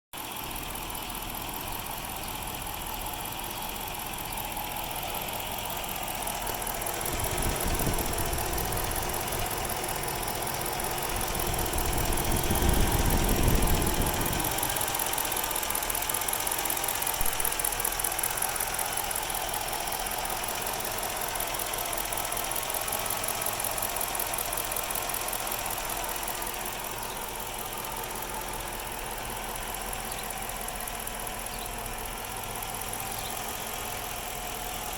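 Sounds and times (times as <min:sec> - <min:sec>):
car engine idling roughly: 0:00.1 - 0:34.9.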